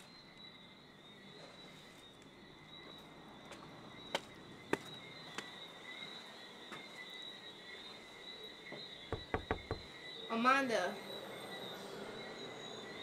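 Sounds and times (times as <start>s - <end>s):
insects and frogs chorus: 0.0s - 13.0s.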